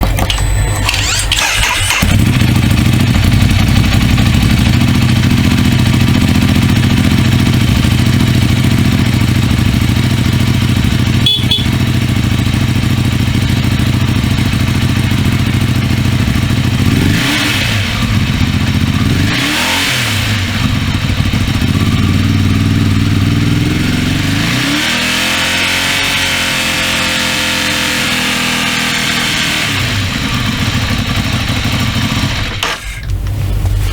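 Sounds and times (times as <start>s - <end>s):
motorcycle engine starting and idling: 0.0s - 33.9s.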